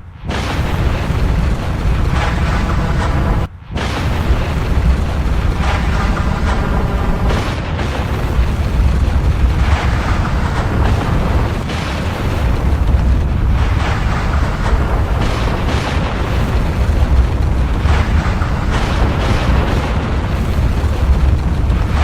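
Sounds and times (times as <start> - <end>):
volcano deep rumble: 0.2 - 22.0.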